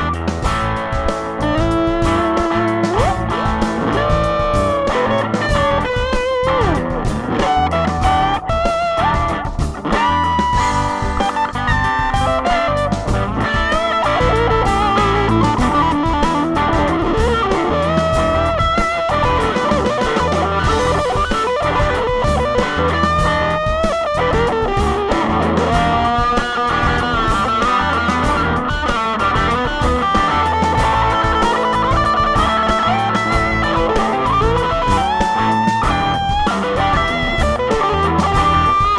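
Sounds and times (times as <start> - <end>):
electric guitar lead with bends: 0.0 - 38.9.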